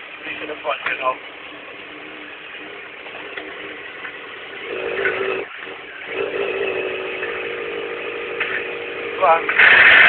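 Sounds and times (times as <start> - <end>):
motorbike engine revving: 0.2 - 10.0.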